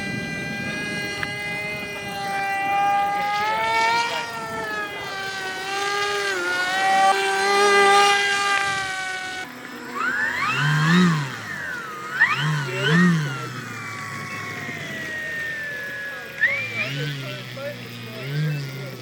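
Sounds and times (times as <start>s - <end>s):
model aircraft motor drone: 0.0s - 19.0s.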